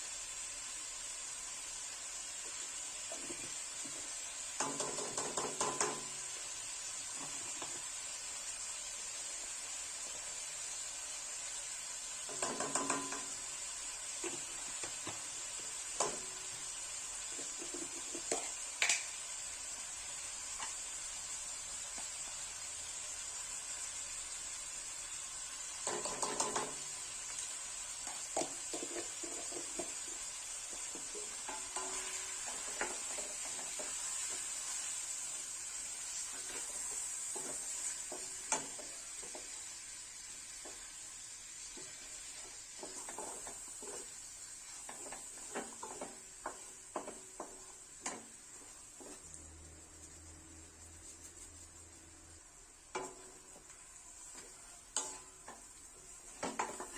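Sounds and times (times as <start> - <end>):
food sizzling in a pot: 0.0 - 56.9.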